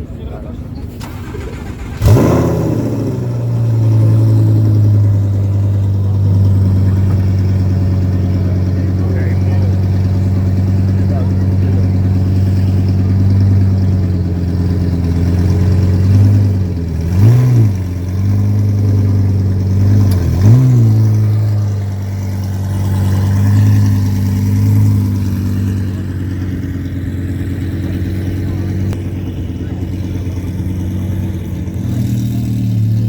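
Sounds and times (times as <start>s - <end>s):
engine throttle blips: 0.0s - 33.0s
sports car engine idling: 0.0s - 33.0s.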